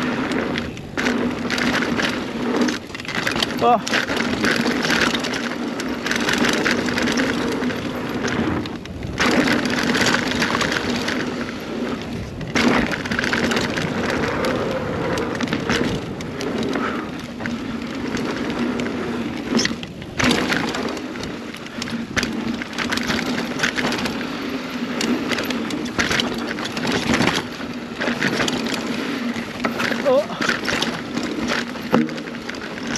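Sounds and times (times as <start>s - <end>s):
bike chain rattling: 0.0s - 32.9s
tyres rumbling over dirt: 0.0s - 32.9s.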